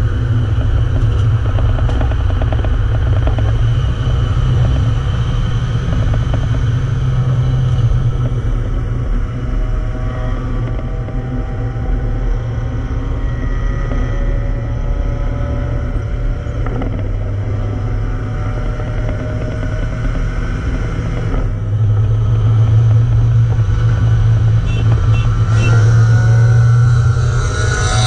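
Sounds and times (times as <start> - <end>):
car engine droning: 0.0 - 28.0
road noise: 0.0 - 28.0.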